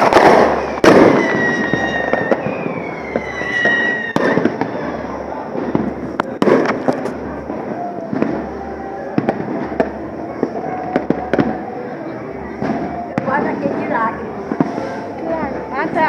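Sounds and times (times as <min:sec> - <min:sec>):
firework whistle falling in pitch: 0:00.0 - 0:05.9, 0:07.5 - 0:15.8
firework pops and crackles: 0:00.0 - 0:08.6, 0:09.2 - 0:11.6, 0:12.6 - 0:15.3
firework bangs: 0:00.0 - 0:16.0.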